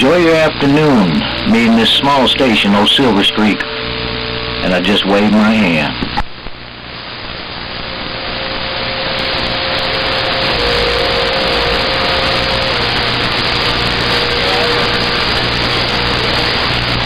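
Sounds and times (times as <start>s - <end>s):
radio static hiss: 0.0s - 8.2s, 9.1s - 17.0s.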